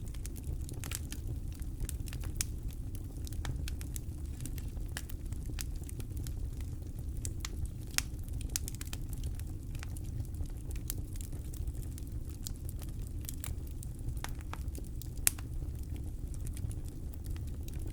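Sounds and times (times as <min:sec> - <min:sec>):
campfire crackling and popping: 0:00.0 - 0:17.9.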